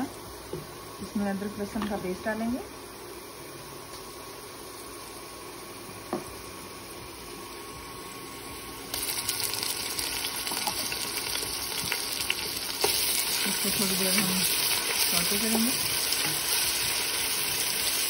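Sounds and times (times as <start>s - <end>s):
onions frying in hot oil: 0.0s - 18.0s.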